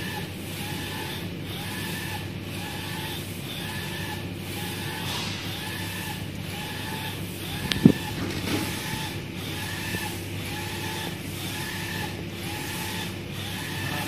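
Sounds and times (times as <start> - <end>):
printer carriage motor whine: 0.0 - 14.0.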